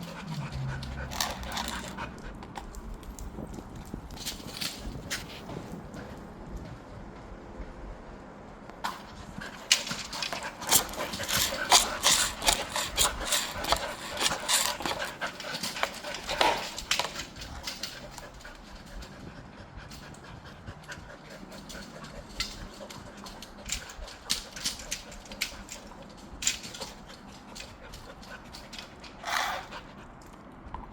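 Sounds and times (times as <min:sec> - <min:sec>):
dogs panting: 0:00.0 - 0:04.0, 0:08.9 - 0:30.6.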